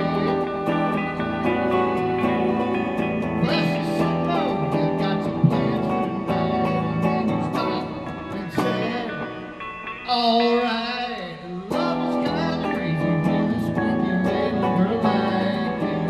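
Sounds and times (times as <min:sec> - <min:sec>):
electric guitar melody: 0:00.0 - 0:16.0.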